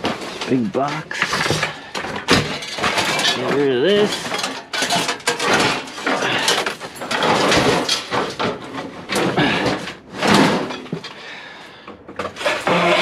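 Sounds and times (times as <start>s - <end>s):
junk scraping and knocking: 0.0s - 13.0s.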